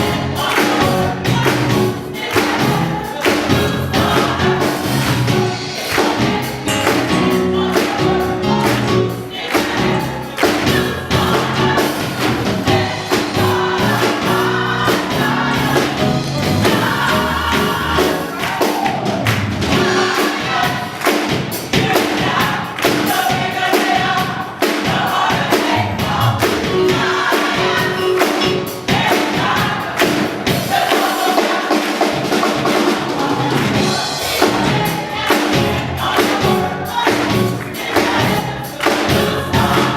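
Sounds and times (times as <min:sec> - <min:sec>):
choir singing gospel: 0:00.0 - 0:39.9
instrumental accompaniment: 0:00.0 - 0:39.9
percussion beat: 0:00.0 - 0:39.9.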